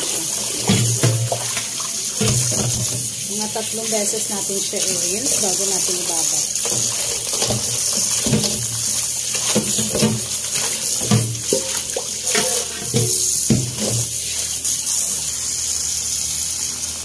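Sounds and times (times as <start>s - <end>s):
hands rinsing and splashing: 0.0s - 15.2s
tap water running into steel bowl: 0.0s - 17.0s.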